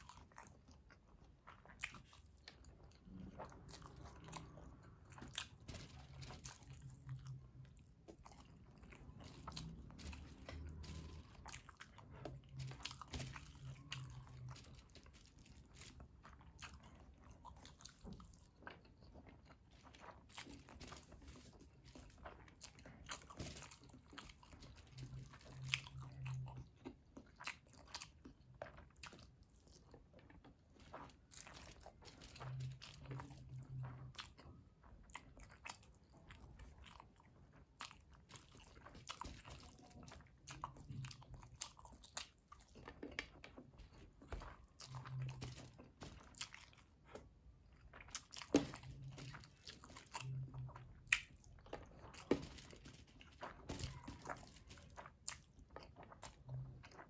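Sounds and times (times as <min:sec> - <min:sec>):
person chewing with mouth clicks: 0:00.0 - 0:57.0.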